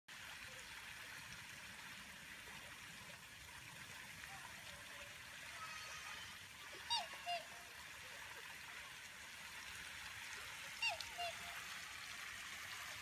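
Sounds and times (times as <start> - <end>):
faint outdoor rushing hiss: 0.1 - 13.0.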